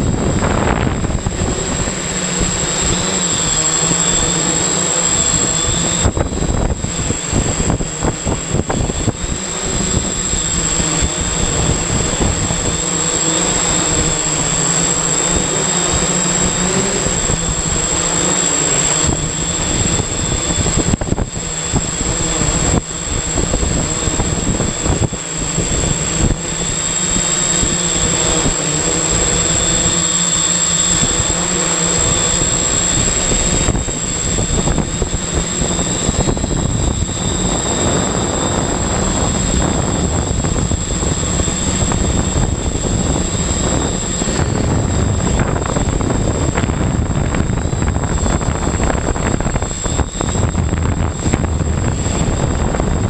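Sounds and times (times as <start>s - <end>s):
drone motors whirring: 0.0s - 53.0s.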